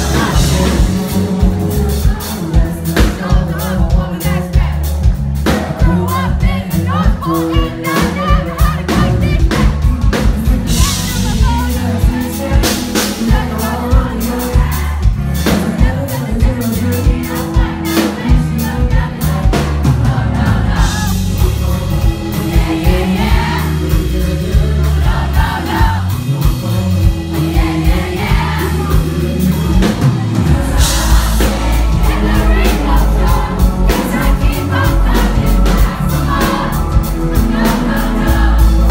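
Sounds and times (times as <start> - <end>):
man singing through pa: 0.0 - 19.8, 20.7 - 38.9
drum kit: 0.0 - 38.9
live pop-rock band: 0.0 - 38.9.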